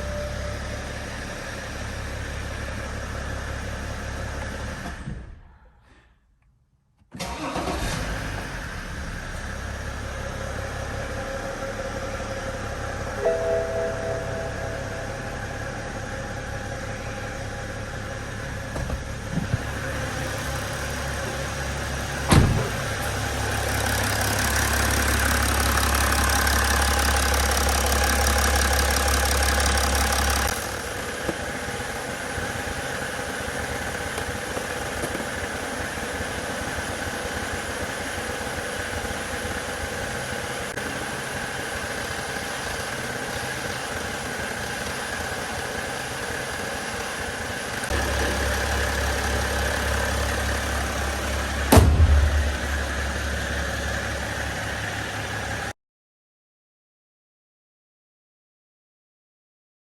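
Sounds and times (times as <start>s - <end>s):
diesel engine idling: 7.2s - 55.7s.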